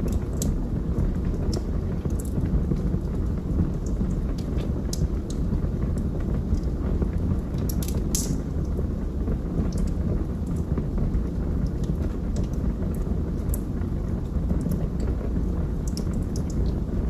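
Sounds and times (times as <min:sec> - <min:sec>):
burning wood crackling: 0:00.0 - 0:17.0
low rumble of flames: 0:00.0 - 0:17.0.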